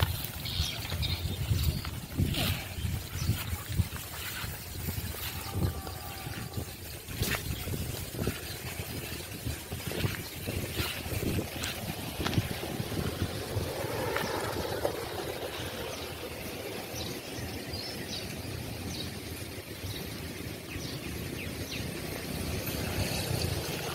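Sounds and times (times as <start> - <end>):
steady low rumbling: 0.0 - 23.9.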